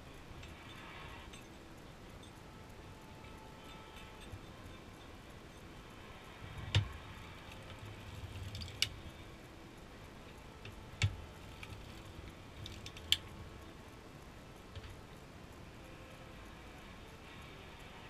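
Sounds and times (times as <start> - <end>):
knitting machine clicks: 0.0 - 18.0.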